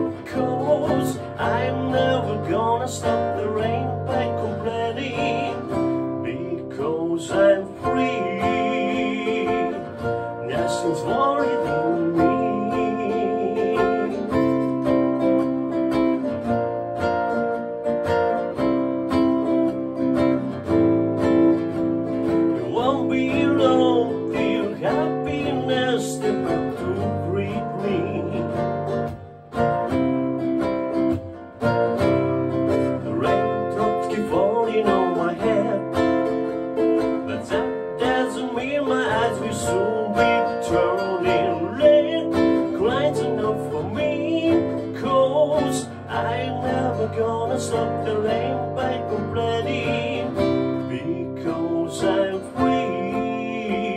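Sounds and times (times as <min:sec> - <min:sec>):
man singing: 0:00.0 - 0:15.7, 0:20.7 - 0:29.2, 0:31.6 - 0:53.9
nylon-string guitar strummed: 0:00.0 - 0:53.9.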